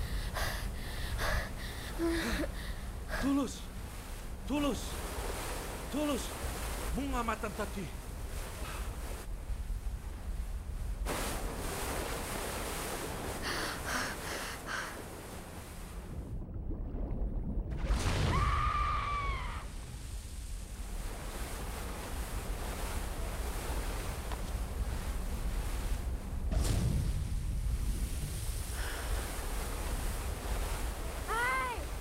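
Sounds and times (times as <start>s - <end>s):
ocean surf: 0.0s - 16.3s, 17.9s - 32.0s
wind: 0.0s - 32.0s.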